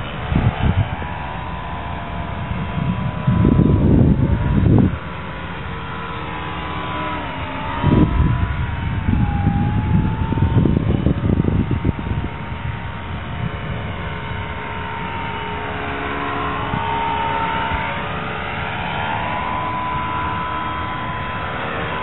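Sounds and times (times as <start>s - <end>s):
electric motor and propeller whining: 0.0s - 22.0s
wind rumble on microphone: 0.0s - 22.0s.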